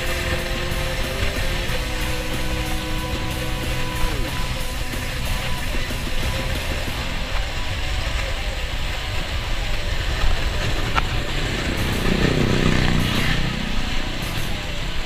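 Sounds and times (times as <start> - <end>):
motorcycle passing by: 0.0 - 7.5, 10.0 - 15.0
bicycle rolling on concrete: 0.0 - 15.0
wind rumble: 0.0 - 15.0.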